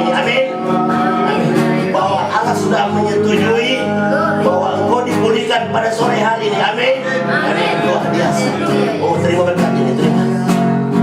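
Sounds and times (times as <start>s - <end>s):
acoustic guitar: 0.0s - 11.0s
person singing: 0.0s - 11.0s.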